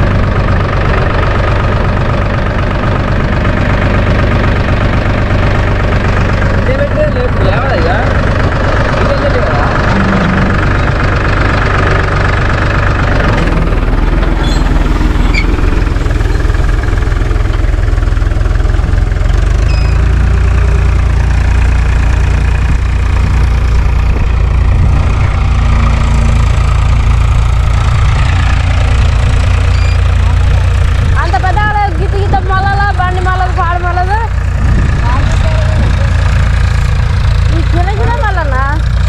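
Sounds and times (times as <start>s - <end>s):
tractor engine drone: 0.0s - 39.0s.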